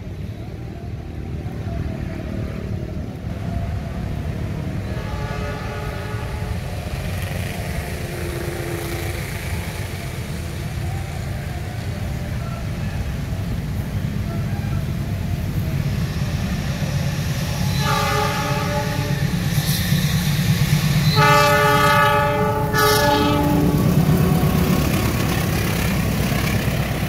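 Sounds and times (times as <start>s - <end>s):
train approaching on tracks: 0.0s - 27.0s
vehicles rumbling: 0.0s - 27.0s.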